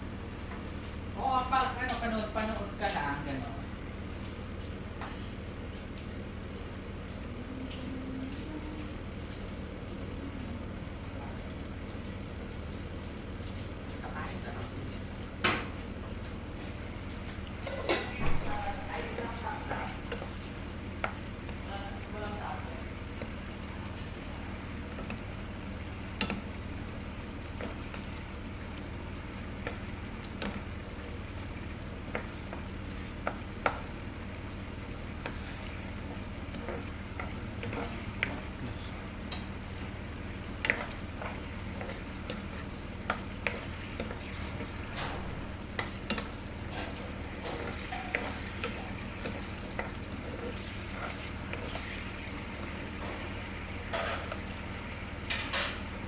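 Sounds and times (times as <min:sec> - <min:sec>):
meat cooking in a frying pan: 0:00.0 - 0:07.4, 0:09.0 - 0:56.0.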